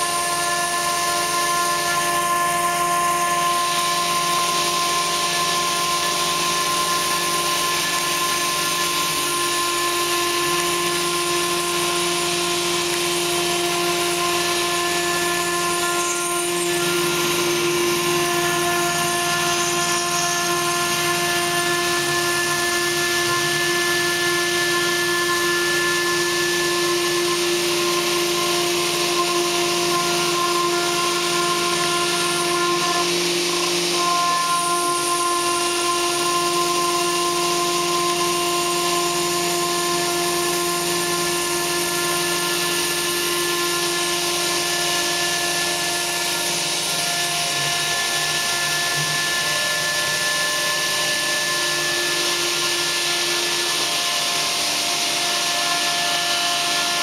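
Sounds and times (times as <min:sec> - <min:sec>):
router bit grinding stone: 0:00.0 - 0:57.0.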